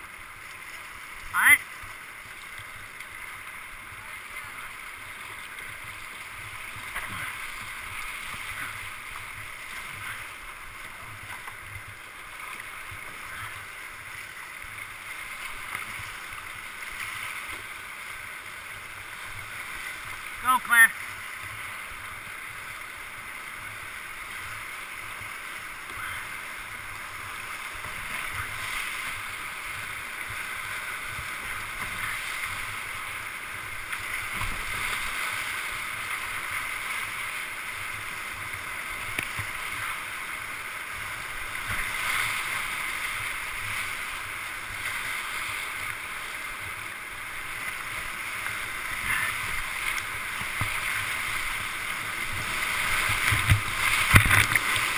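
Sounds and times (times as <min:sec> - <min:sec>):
water splashes: 0:00.0 - 0:54.9
whitewater rapids rushing: 0:00.0 - 0:54.9.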